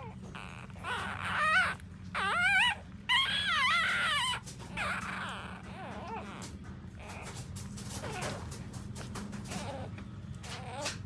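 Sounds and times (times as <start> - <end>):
puppies whining: 0.0 - 11.0.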